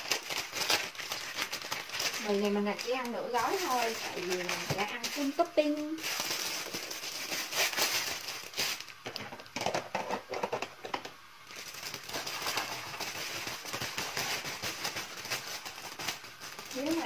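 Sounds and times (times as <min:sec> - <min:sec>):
plastic packet crinkling: 0:00.0 - 0:10.4, 0:11.4 - 0:17.0
steady hiss with clicks: 0:00.0 - 0:17.0.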